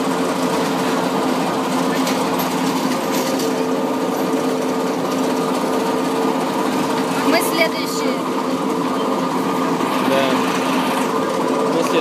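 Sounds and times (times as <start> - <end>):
lift machinery humming: 0.0 - 12.0.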